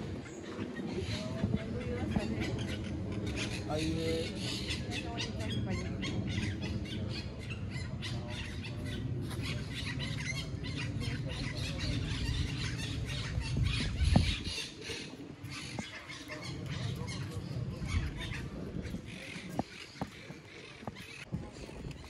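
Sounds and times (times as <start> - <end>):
low rumble: 0.0 - 22.0
parrots squawking and chattering: 0.1 - 21.7.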